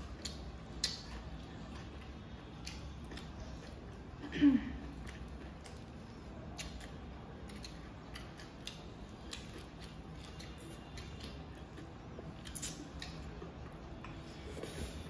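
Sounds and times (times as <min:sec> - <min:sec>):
chewing noodles mouth noises: 0:00.0 - 0:04.2, 0:04.8 - 0:15.0
low steady hum: 0:00.0 - 0:15.0.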